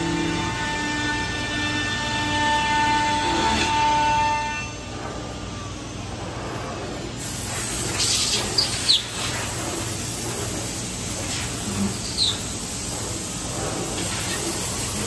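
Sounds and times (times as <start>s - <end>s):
machine noise with hiss: 0.0s - 15.0s.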